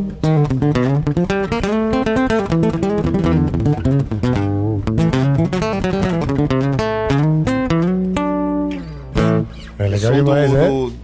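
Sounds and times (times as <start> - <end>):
guitar fast plucked notes: 0.0 - 10.8.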